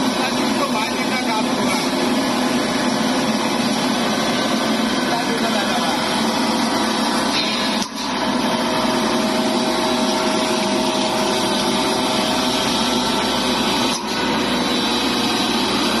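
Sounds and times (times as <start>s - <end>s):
spice grinding machine running: 0.0s - 16.0s.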